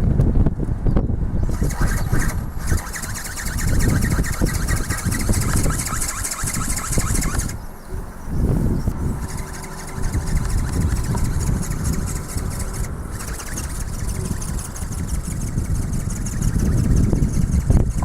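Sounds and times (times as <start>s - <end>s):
wind buffeting microphone: 0.0s - 18.0s
high pulsing electric motor buzz: 1.4s - 18.0s.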